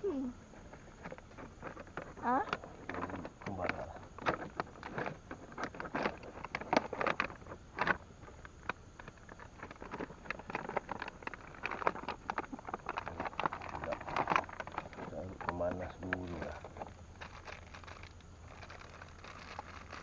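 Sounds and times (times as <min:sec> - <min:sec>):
plastic packaging crinkling: 0:00.8 - 0:20.0.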